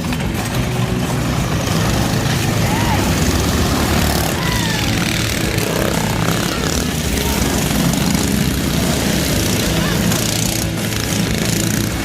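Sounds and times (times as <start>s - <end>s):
small motorcycle engines running: 0.0s - 12.0s.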